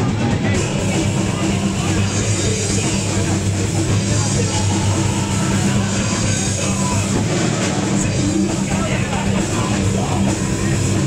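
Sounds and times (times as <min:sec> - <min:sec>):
heavy rock band playing: 0:00.0 - 0:11.0.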